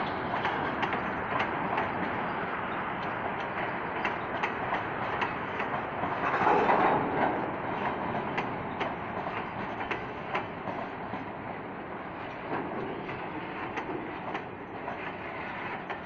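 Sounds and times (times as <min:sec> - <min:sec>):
freight train rolling past: 0:00.0 - 0:16.0
wheels clicking over rail joints: 0:00.0 - 0:16.0.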